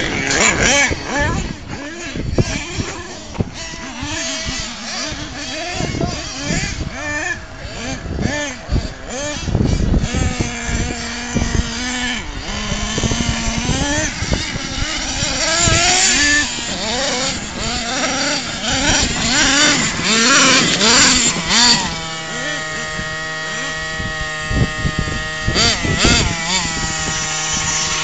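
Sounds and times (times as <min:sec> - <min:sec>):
small nitro engine revving: 0:00.0 - 0:28.0.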